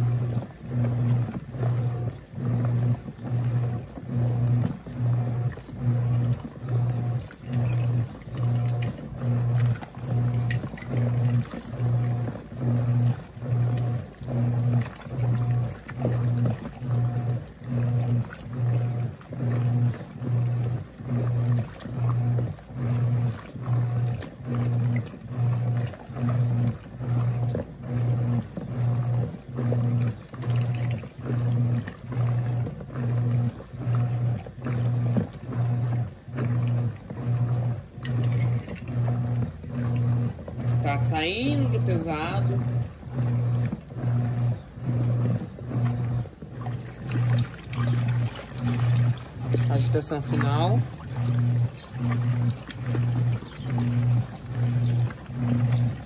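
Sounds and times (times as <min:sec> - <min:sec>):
washing machine motor humming in pulses: 0:00.0 - 0:56.0
water sloshing in the tub: 0:00.0 - 0:56.0.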